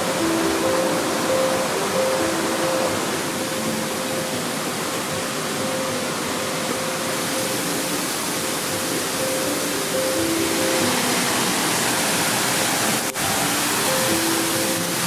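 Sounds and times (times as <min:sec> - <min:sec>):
waterfall rushing hiss: 0:00.0 - 0:15.0.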